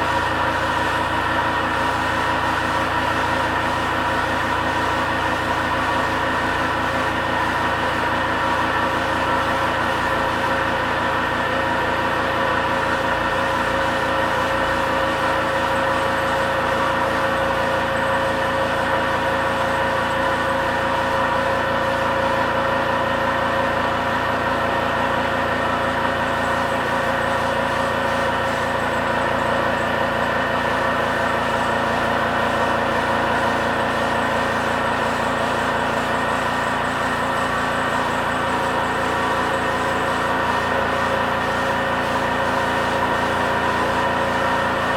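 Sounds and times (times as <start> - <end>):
air compressor humming: 0.0 - 44.9.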